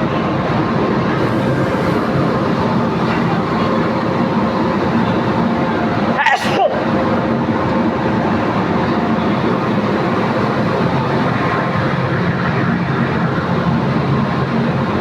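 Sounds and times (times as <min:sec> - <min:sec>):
ship engine drone: 0:00.0 - 0:15.0.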